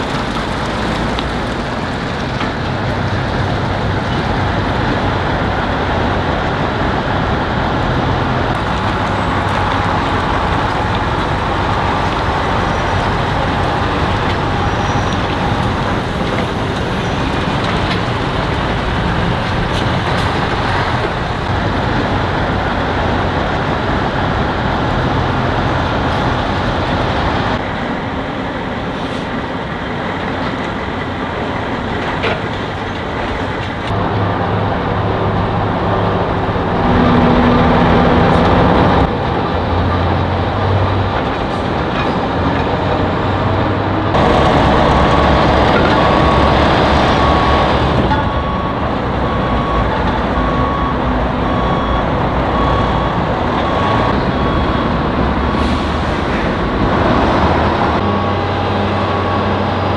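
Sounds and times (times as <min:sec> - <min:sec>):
diesel trucks driving past: 0:00.0 - 0:59.9.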